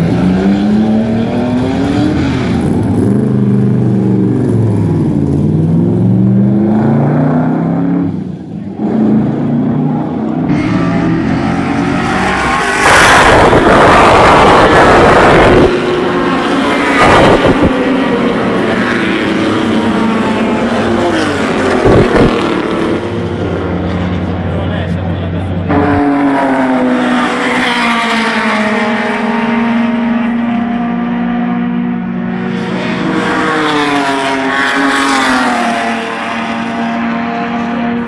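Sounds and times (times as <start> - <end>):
car engine revving: 0.0 - 38.0
race cars passing at full throttle: 0.0 - 38.0.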